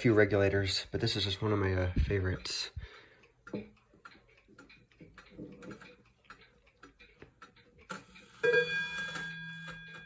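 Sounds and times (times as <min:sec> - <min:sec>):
wall clock ticking: 0:00.0 - 0:10.0.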